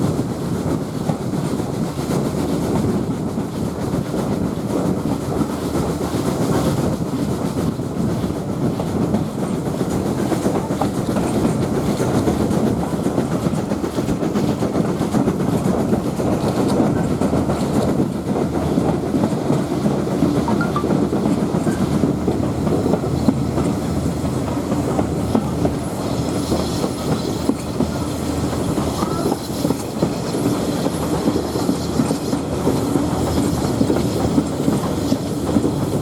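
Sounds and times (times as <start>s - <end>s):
train rumble: 0.0s - 36.0s
wheels clacking on rails: 0.0s - 36.0s.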